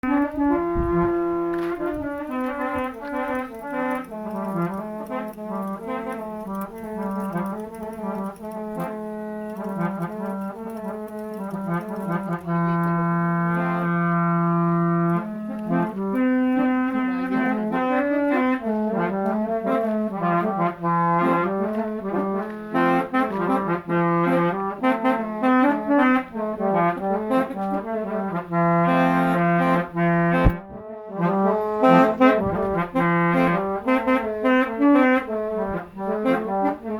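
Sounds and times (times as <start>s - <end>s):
low droning horn note: 0.0s - 36.9s
multi-tone horns playing tune: 0.0s - 36.9s.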